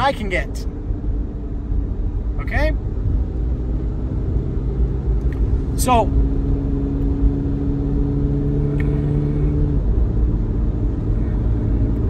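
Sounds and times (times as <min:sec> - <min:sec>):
engine and road rumble: 0:00.0 - 0:12.0
engine drone: 0:00.0 - 0:12.0.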